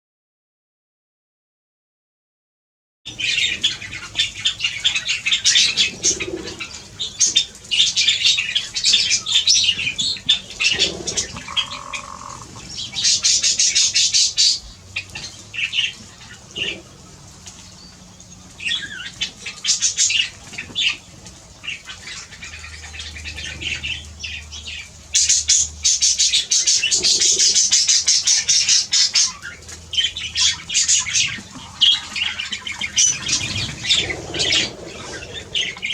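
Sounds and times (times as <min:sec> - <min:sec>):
birds squawking and chattering: 0:03.1 - 0:35.9.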